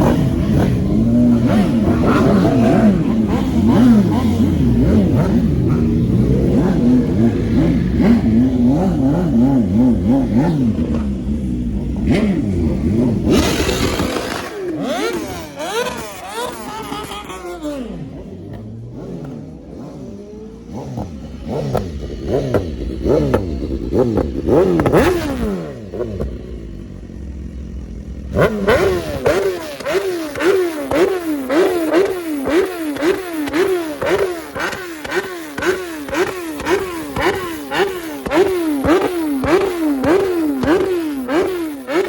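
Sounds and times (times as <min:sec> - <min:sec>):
vehicle engines revving: 0:00.0 - 0:42.0.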